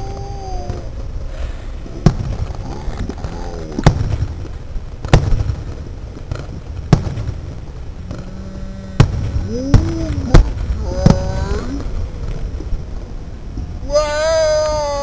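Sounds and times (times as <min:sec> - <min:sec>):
fireworks booming: 0:00.0 - 0:13.8
steady low rumble: 0:00.0 - 0:15.0.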